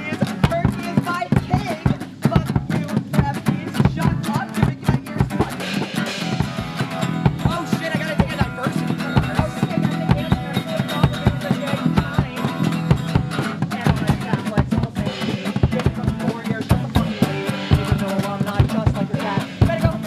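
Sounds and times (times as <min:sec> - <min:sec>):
drum kit beat: 0:00.0 - 0:20.0
guitar: 0:00.0 - 0:20.0.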